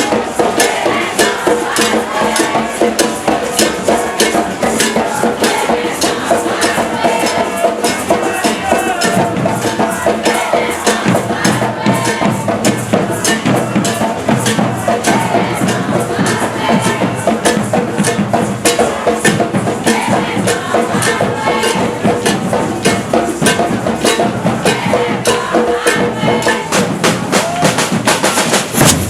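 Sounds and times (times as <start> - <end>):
percussion ensemble drumming: 0.0 - 29.0.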